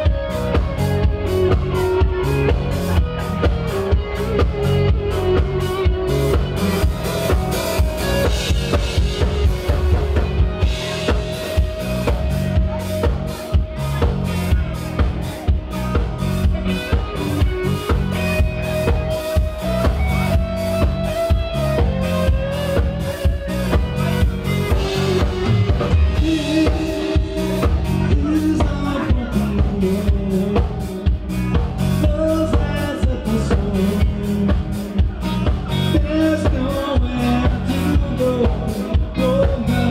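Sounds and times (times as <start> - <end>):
bending electric guitar notes: 0.0 - 39.9
drum kit beat: 0.0 - 39.9
electric bass: 0.0 - 39.9.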